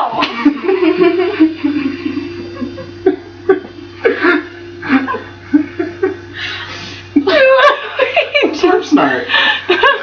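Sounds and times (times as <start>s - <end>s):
steady hum: 0.0s - 10.0s
giggling: 0.2s - 10.0s.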